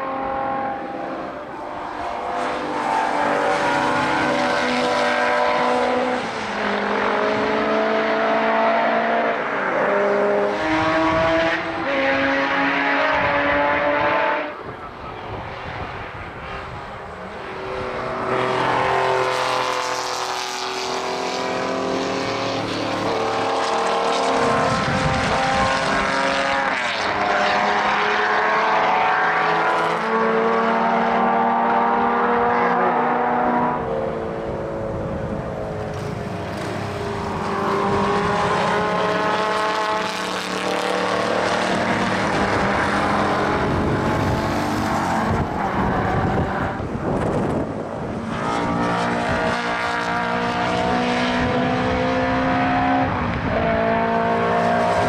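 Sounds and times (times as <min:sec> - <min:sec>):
racing cars passing: 0:00.0 - 0:55.0.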